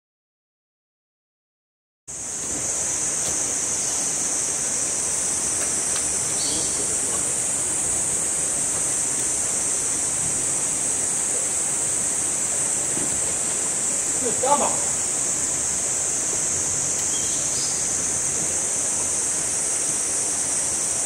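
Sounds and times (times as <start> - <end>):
high-pitched hiss: 2.1 - 21.0
stream and waterfall rushing: 2.1 - 21.0.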